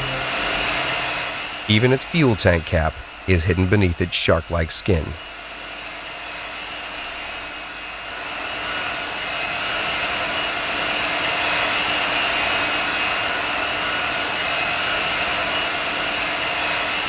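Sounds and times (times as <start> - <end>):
jet engines running with high whine: 0.0 - 17.0.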